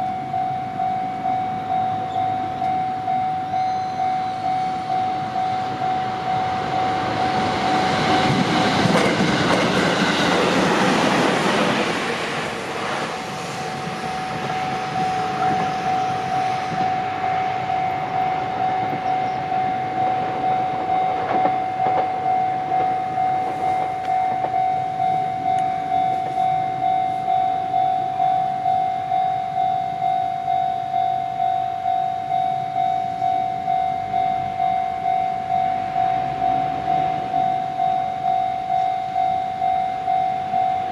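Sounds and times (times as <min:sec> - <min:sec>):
level-crossing bell ringing: 0:00.0 - 0:08.4, 0:13.8 - 0:40.9
train rumble and wheel clatter: 0:01.2 - 0:40.9.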